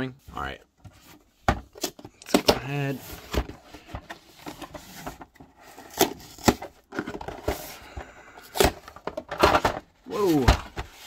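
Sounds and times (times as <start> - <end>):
cardboard rustling and scraping: 0.4 - 11.0.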